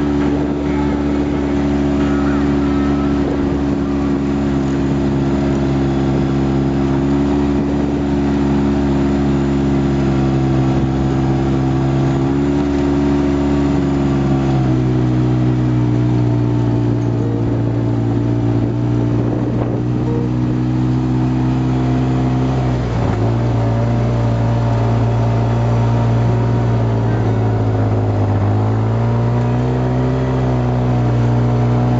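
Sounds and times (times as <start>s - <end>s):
vehicle engine running under load: 0.0s - 31.9s.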